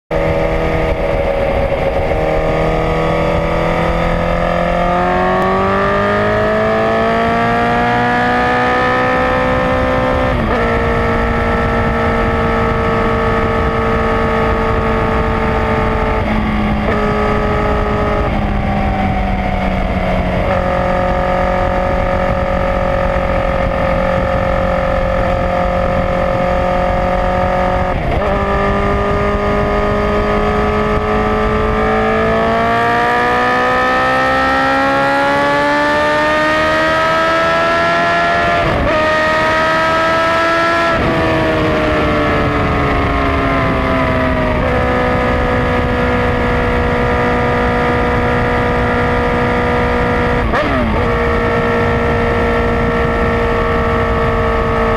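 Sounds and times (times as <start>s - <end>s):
motorcycle engine accelerating: 0.1s - 54.9s
wind rushing: 0.1s - 54.9s.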